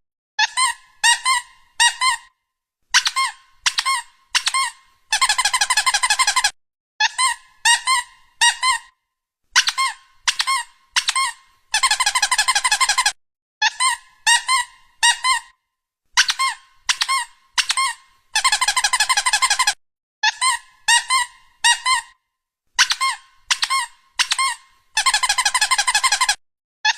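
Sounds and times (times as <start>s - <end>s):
squeaky toy squeaks: 0.4s - 15.6s, 16.2s - 22.2s, 22.8s - 26.9s.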